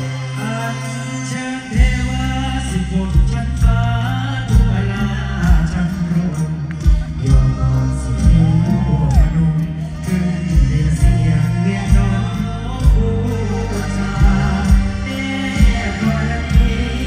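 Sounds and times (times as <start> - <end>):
heavy bass line: 0.0 - 17.0
person singing: 0.0 - 17.0.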